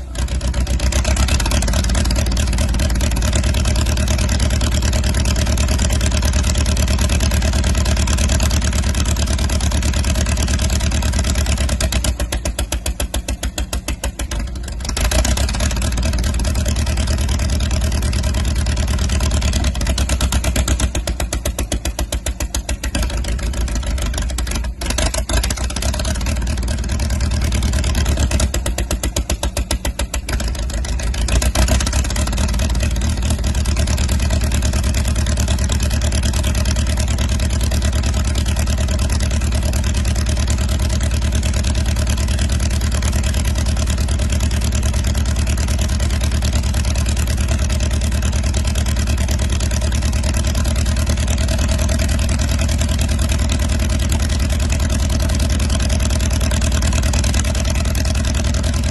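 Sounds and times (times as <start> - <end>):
bulldozer engine running: 0.0 - 58.9.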